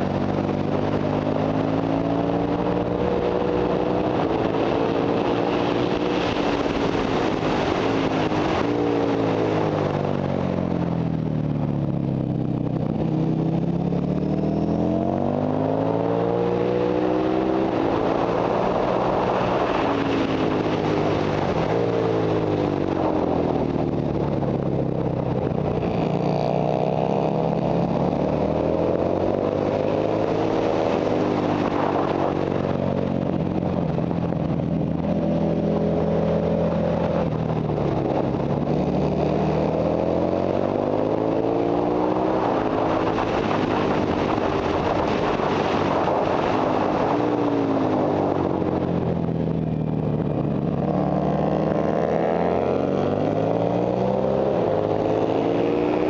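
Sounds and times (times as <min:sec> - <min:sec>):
motorcycle engine revving: 0:00.0 - 0:56.0
wind rush over microphone: 0:00.0 - 0:56.0.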